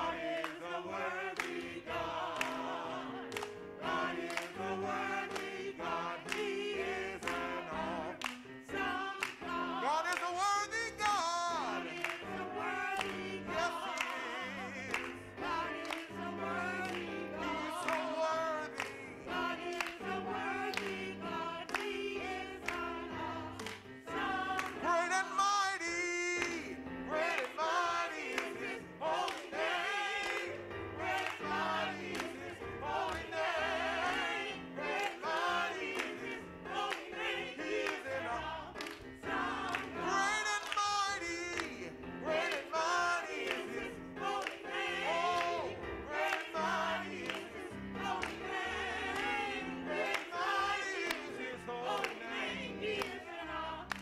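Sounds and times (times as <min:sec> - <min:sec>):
choir singing gospel song: 0:00.0 - 0:54.0.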